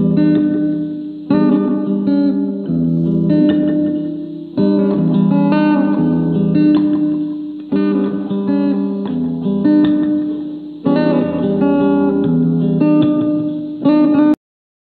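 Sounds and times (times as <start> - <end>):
guitar chords ringing: 0.0 - 14.4.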